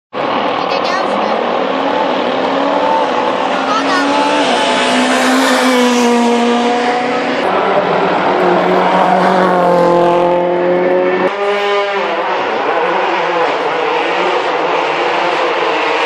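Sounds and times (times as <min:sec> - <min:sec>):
car engine at high revs: 0:00.2 - 0:16.0.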